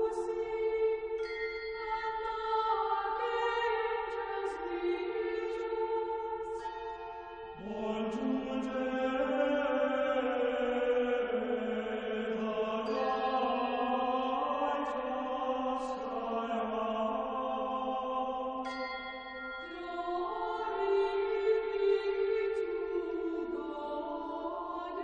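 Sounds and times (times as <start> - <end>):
lower voice singing: 0.0 - 1.2, 1.8 - 18.6, 19.6 - 25.0
voices singing slow chant: 0.0 - 25.0.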